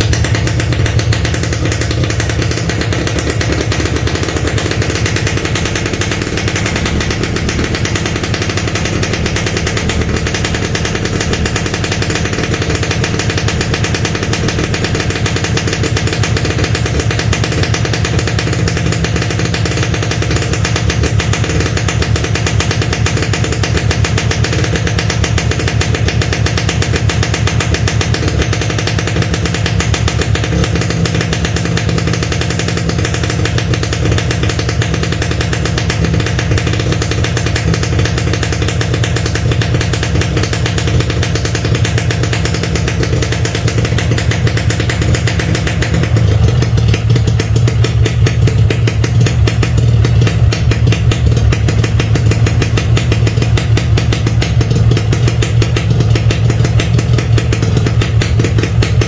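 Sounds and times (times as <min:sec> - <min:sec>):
two-stroke motorcycle engine running: 0:00.0 - 0:59.0.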